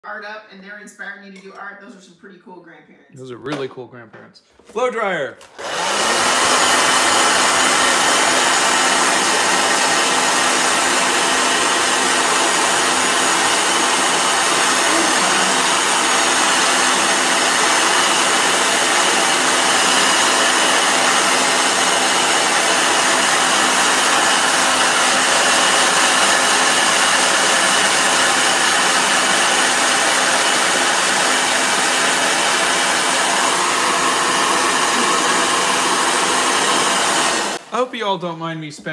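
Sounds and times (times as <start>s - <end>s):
hair dryer blowing: 5.4s - 37.8s.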